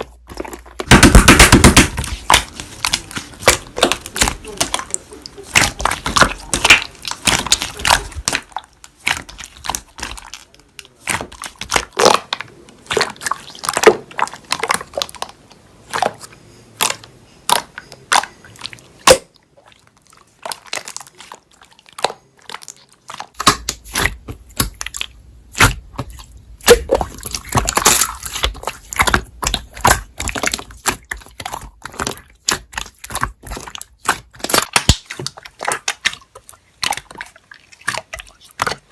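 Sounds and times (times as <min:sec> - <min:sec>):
slime squished by hand: 0:00.0 - 0:38.9.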